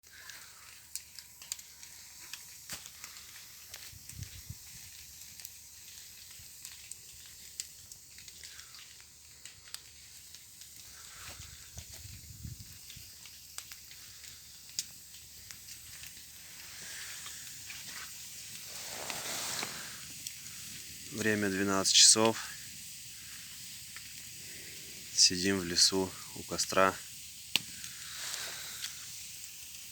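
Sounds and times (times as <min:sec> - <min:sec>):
campfire crackling and popping: 0:00.0 - 0:29.9
steady hiss: 0:00.0 - 0:29.9.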